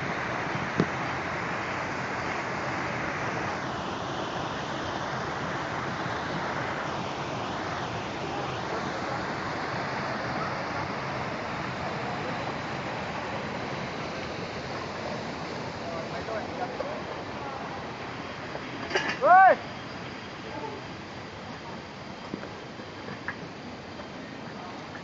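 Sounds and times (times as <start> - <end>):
waterfall rushing over rocks: 0.0 - 25.0.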